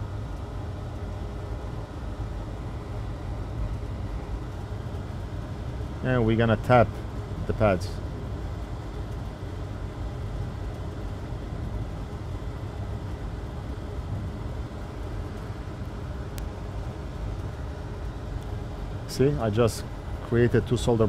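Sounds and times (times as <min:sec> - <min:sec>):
faint hum: 0:00.0 - 0:21.0
low background rumble: 0:00.0 - 0:21.0.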